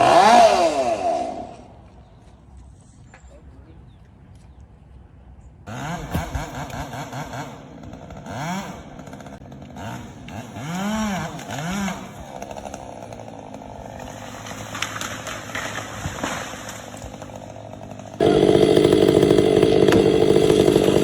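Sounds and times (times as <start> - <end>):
chainsaw revving: 0.0 - 1.7, 5.7 - 21.0.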